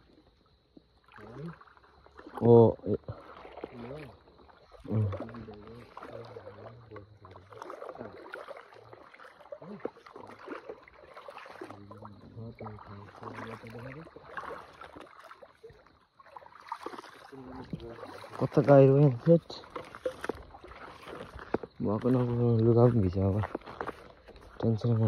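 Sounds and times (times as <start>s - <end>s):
wading water splashing: 0.0s - 25.0s.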